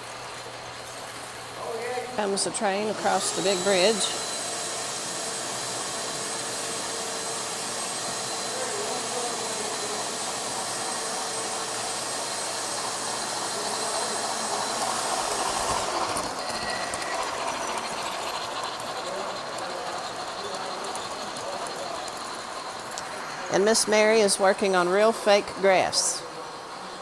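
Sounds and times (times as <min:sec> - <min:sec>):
model steam train running on track: 0:00.0 - 0:27.0.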